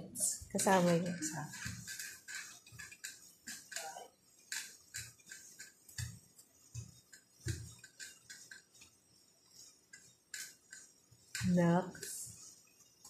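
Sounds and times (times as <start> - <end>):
exercise bike pedal clicking: 0.2 - 13.0.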